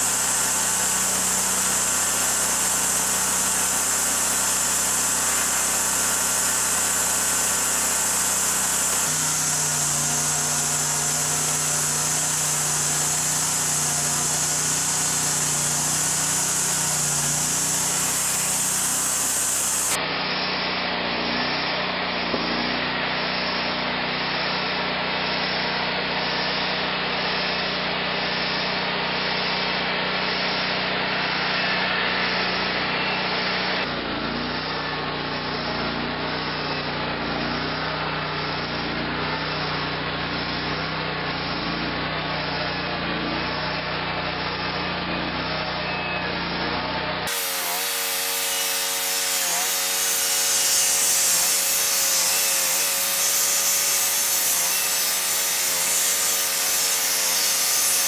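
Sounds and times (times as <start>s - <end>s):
saw blade hissing in wood: 0.0s - 20.6s, 23.3s - 58.0s
sawmill engine drone: 0.0s - 58.0s.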